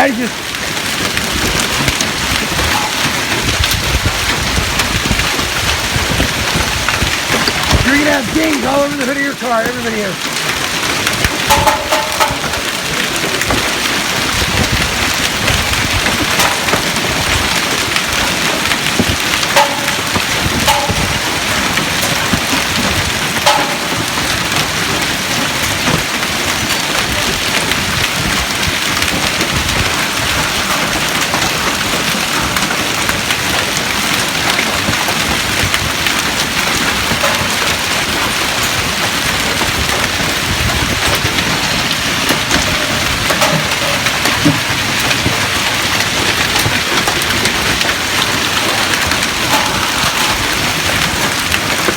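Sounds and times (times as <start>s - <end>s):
hailstones pelting down: 0.0s - 51.9s
hailstones striking metal: 0.0s - 51.9s.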